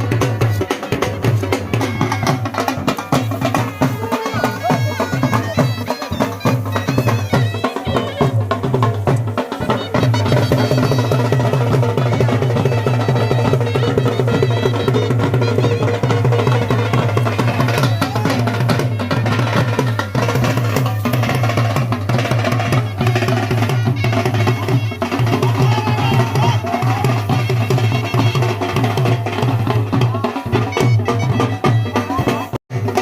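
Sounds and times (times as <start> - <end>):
fast drum beat: 0.0 - 33.0
wind instrument drone: 0.0 - 33.0
wavering melody: 0.2 - 29.2.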